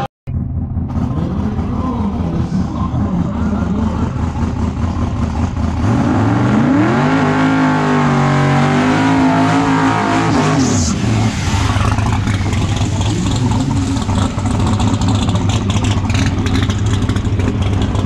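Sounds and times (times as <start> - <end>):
race car engine approaching: 0.0 - 18.0.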